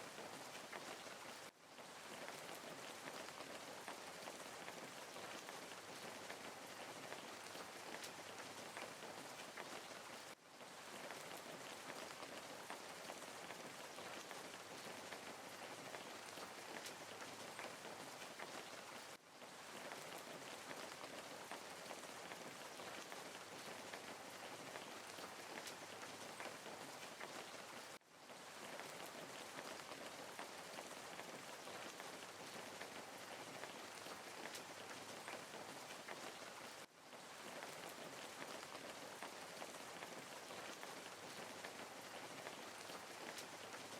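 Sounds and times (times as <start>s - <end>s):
fountain splashing into pond: 0.0s - 43.9s.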